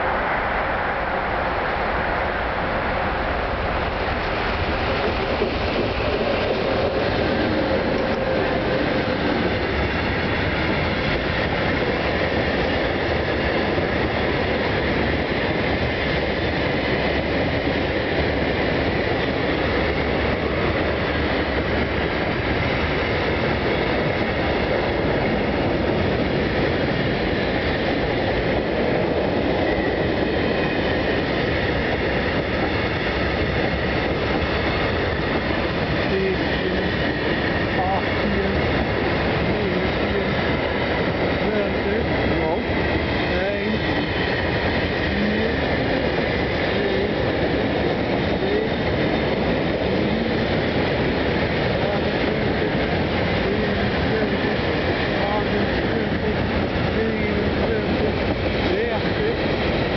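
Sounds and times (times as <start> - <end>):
freight train passing: 0.0 - 59.9.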